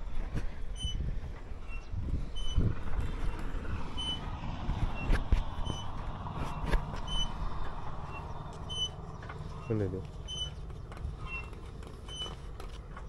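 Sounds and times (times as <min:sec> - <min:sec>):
low rumble: 0:00.0 - 0:11.5.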